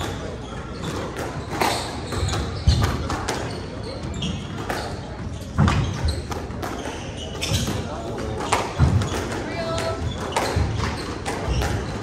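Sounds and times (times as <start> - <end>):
shoes squeaking on hardwood floor: 0.0 - 12.0
squash ball hitting rackets and walls: 0.0 - 12.0.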